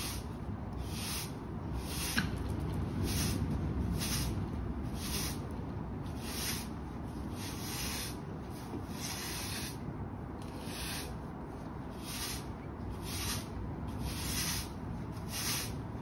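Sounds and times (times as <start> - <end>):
broom sweeping brick pavers: 0.0 - 16.0.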